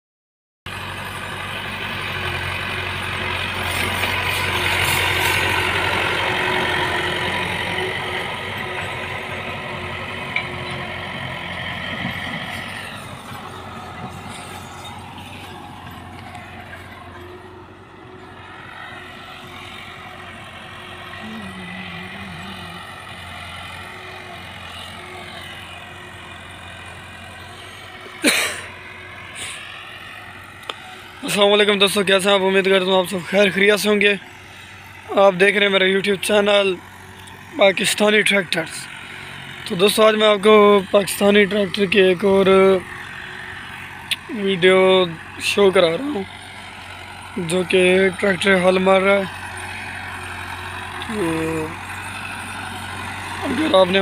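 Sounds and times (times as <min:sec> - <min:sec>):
tractor diesel engine running: 0:00.7 - 0:54.0.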